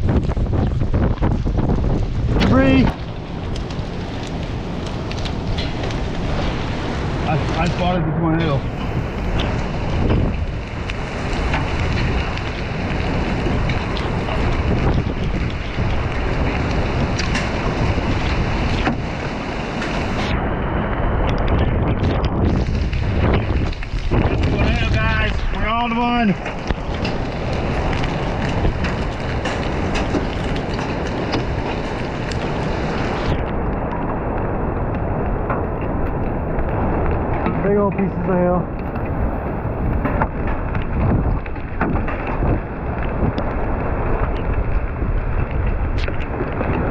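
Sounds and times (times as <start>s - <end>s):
hail striking car: 0.0s - 20.3s, 21.3s - 46.9s
heavy rain: 0.0s - 46.9s
raindrops ticking sharply: 0.0s - 46.9s
strong wind buffeting microphone: 0.0s - 46.9s.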